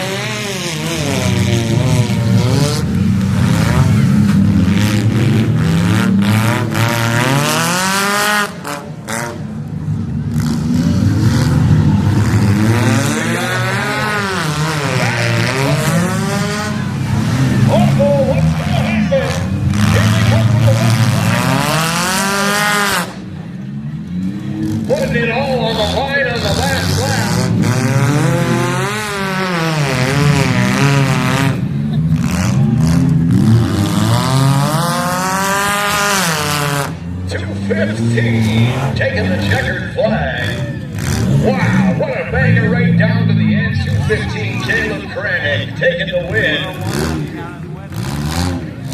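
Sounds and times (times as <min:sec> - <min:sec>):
car engines revving hard: 0:00.0 - 0:48.9.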